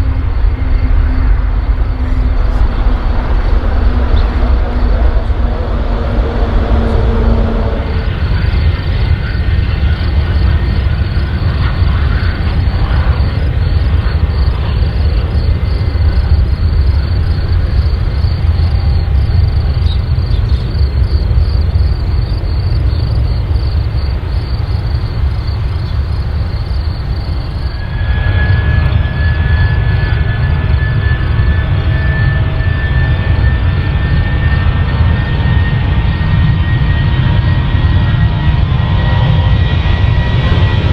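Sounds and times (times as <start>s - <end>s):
airplane engine rumble: 0.0s - 40.9s.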